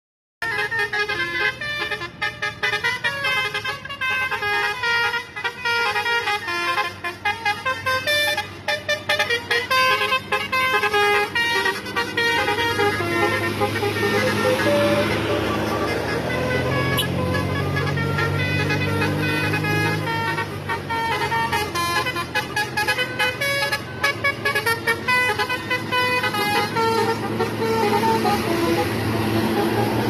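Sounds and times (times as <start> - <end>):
bus engine humming: 0.4 - 30.0
bus horns tooting melody: 0.4 - 30.0.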